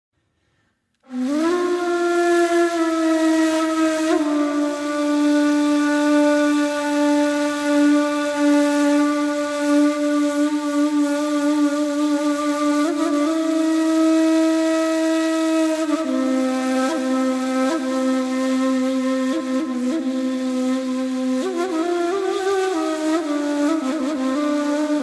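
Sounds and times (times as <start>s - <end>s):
reed flute playing slow solo: 1.0s - 25.0s.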